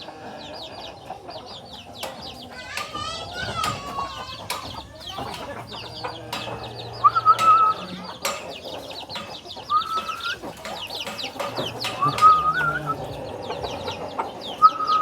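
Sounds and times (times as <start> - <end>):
chicken drawn-out calls: 0.0 - 15.0
chickens clucking: 0.0 - 15.0.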